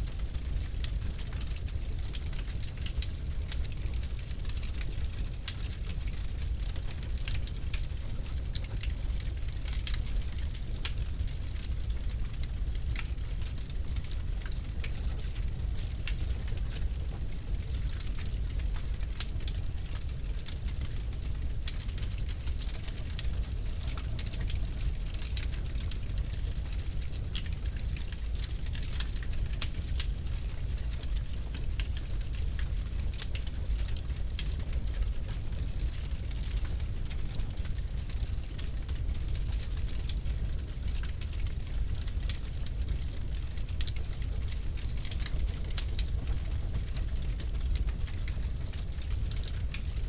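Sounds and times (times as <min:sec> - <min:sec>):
low rumble of burning: 0:00.0 - 0:50.0
wood fire crackling and popping: 0:00.1 - 0:50.0.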